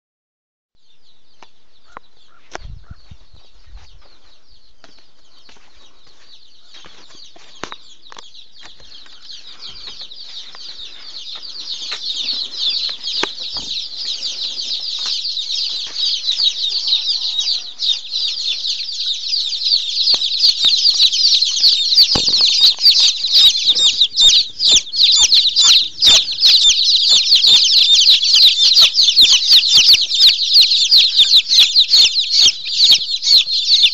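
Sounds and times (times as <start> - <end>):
many birds chirping: 0.8 - 33.9.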